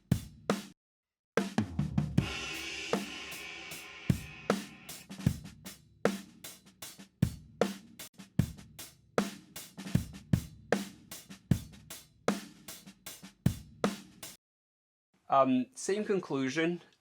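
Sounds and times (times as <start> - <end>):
drum kit playing a groove: 0.0 - 0.7, 1.4 - 14.4.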